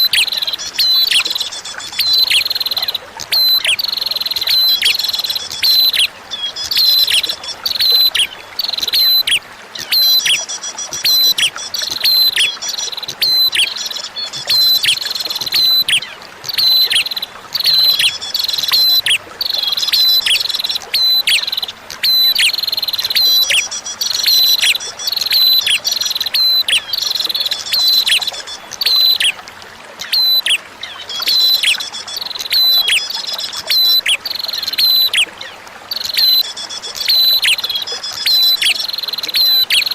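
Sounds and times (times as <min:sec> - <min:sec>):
bird chirping: 0:00.0 - 0:29.4, 0:30.0 - 0:39.9
faint running water: 0:00.0 - 0:39.9.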